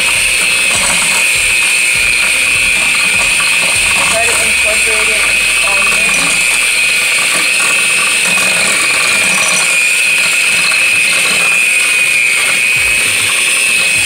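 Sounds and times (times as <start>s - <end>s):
electric hand mixer whining: 0.0s - 14.0s.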